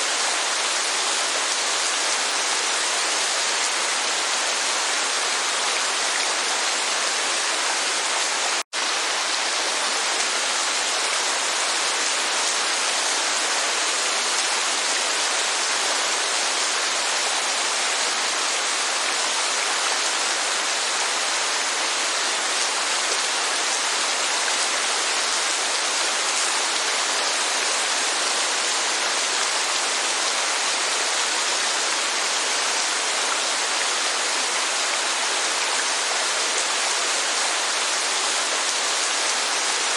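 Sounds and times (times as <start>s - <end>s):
rain and falling water hiss: 0.0s - 39.9s.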